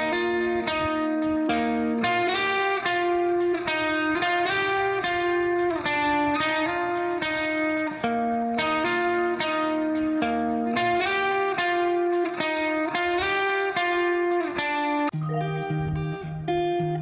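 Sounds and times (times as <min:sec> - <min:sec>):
guitar playing held notes: 0:00.0 - 0:17.0.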